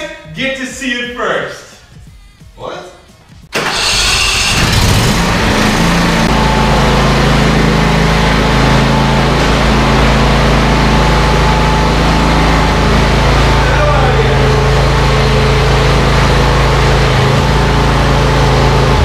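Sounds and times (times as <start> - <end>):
vehicle engine running: 3.3 - 19.0.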